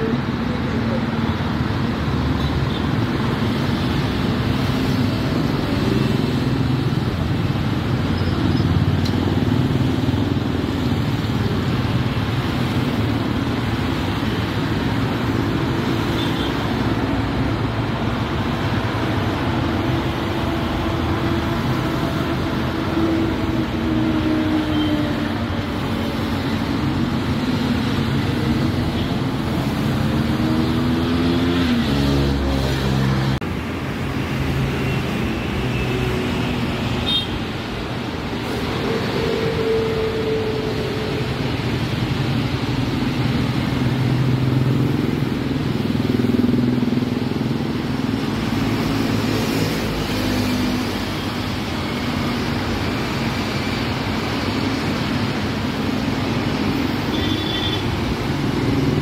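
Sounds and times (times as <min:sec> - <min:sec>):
highway traffic passing: 0:00.0 - 0:59.0.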